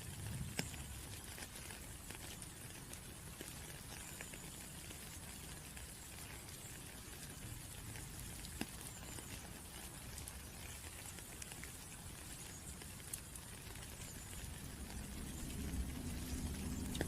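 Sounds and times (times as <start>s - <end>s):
drops ticking on a surface: 0.0s - 17.0s
steady rain: 0.0s - 17.0s.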